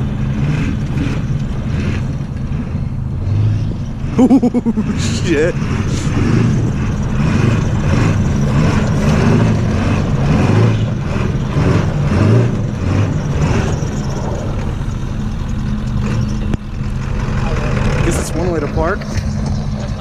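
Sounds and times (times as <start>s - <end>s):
pickup truck engine revving: 0.0s - 20.0s.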